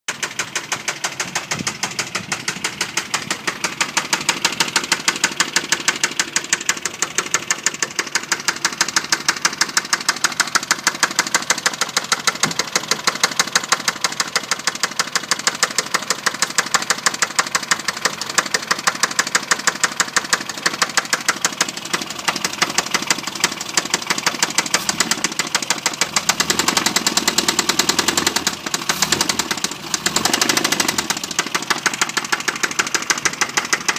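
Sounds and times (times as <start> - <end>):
car engine running: 0.1 - 33.9
rapid knocking inside engine: 0.1 - 33.9.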